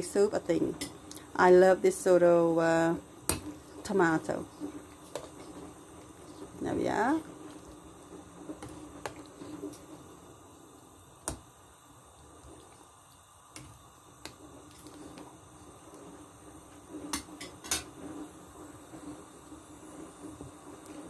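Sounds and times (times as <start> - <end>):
soup bubbling in a pot: 0.4 - 21.0.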